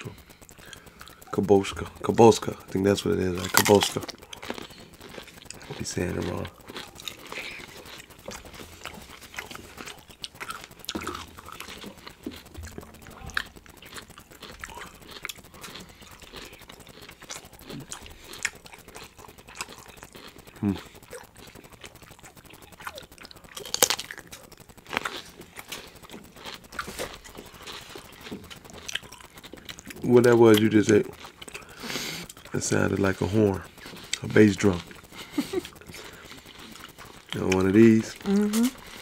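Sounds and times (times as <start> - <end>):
people chewing and biting: 0.0 - 39.0
small crunches and wet clicks: 0.0 - 39.0.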